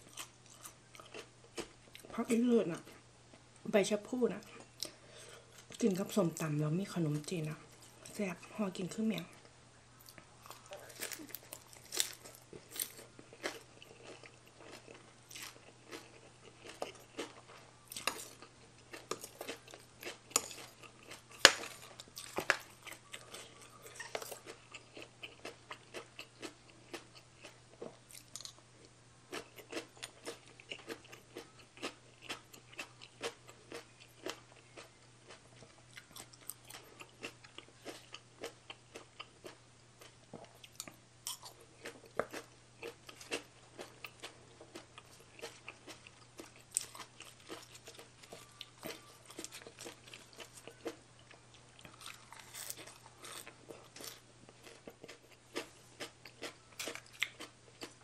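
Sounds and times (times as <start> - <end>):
chewing and crunching: 0.0 - 3.4, 9.2 - 58.0
faint low hum: 0.0 - 58.0.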